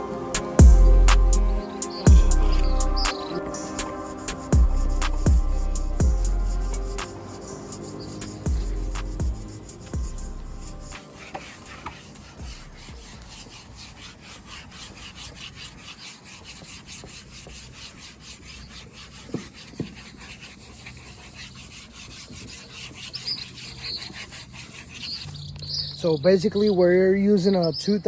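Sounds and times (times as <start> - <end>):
sandpaper rubbing strokes: 0.0 - 25.4.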